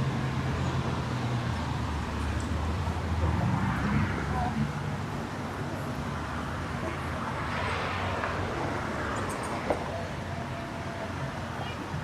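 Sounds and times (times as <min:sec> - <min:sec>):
vehicle passing: 0:00.0 - 0:11.0
hum of traffic: 0:00.0 - 0:12.0.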